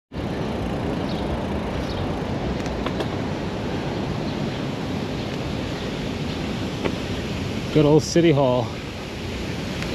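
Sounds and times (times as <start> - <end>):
rolling road noise: 0.1 - 9.9.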